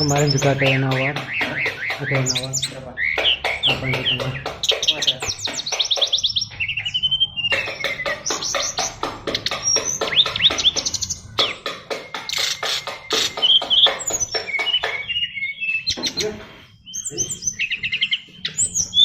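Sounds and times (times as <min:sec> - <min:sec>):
songbird singing rapid chirps: 0:00.0 - 0:19.0.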